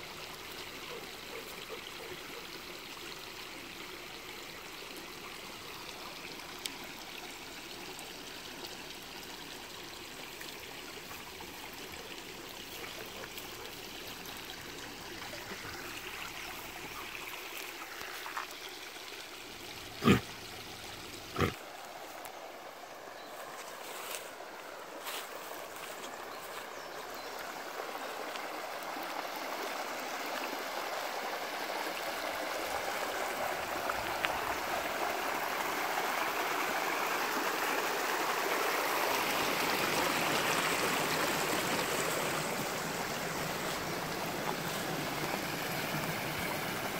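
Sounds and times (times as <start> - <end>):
small waterfall pouring: 0.0 - 46.9
stream running over stones: 0.0 - 46.9.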